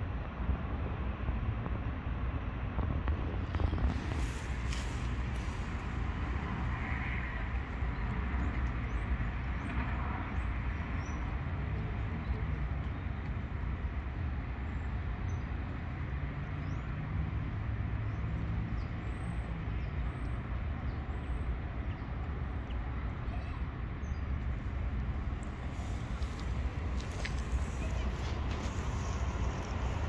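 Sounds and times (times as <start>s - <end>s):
distant traffic rumble: 0.0s - 30.0s.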